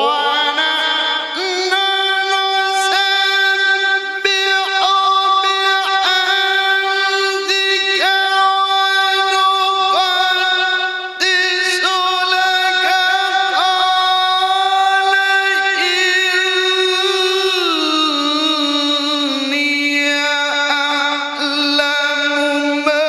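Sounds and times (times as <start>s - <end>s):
man reciting melodically: 0.0s - 23.0s.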